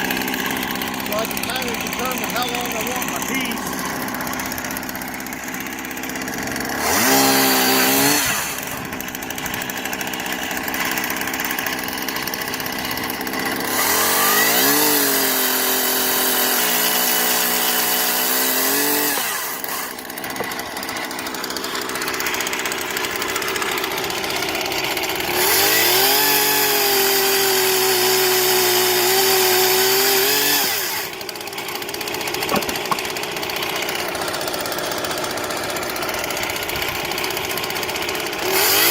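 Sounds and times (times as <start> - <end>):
chain cutting firewood: 0.0 - 38.9
chainsaw revving: 0.0 - 38.9.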